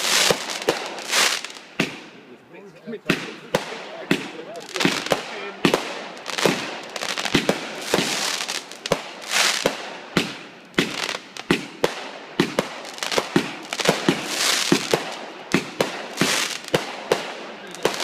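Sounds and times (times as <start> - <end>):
crackling firework sparks: 0.0 - 2.2, 3.1 - 18.0
firework bangs: 0.0 - 2.2, 3.0 - 18.0.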